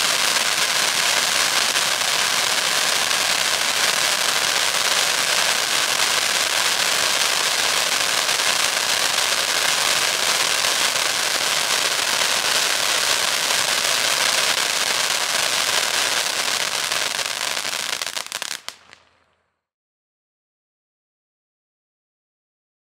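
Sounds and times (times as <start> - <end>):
firework fountain crackling: 0.0 - 19.6.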